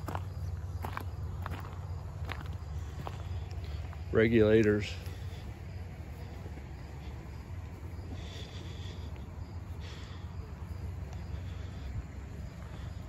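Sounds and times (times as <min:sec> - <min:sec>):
faint insect chirps: 0:00.0 - 0:13.0
low steady rumble: 0:00.0 - 0:13.0.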